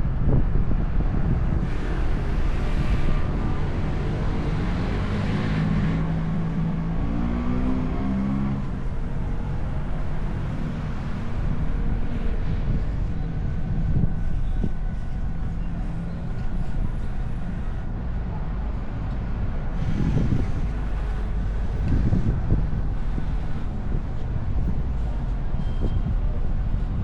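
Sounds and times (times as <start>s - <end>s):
road and tyre noise: 0.0s - 27.0s
wind buffeting microphone: 0.0s - 27.0s.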